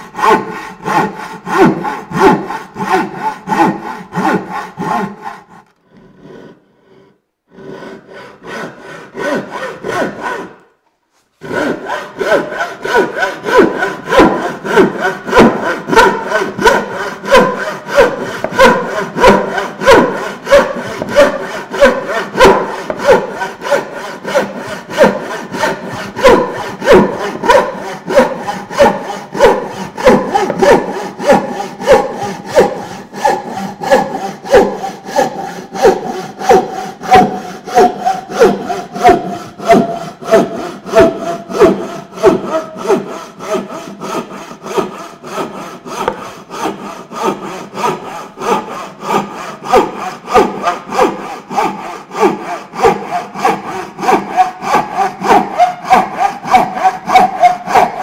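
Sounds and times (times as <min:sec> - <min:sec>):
hand saw rasping through wood: 0:00.0 - 0:58.0.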